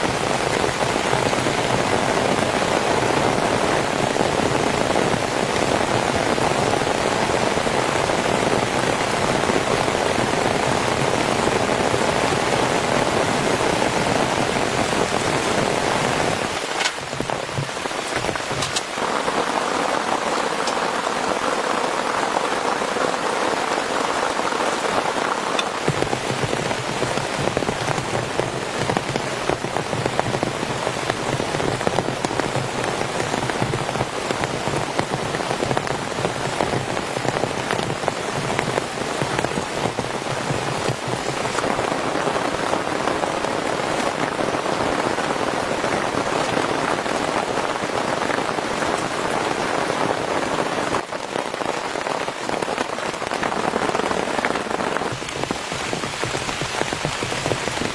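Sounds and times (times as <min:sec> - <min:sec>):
heavy rain on a tent: 0:00.0 - 0:57.9.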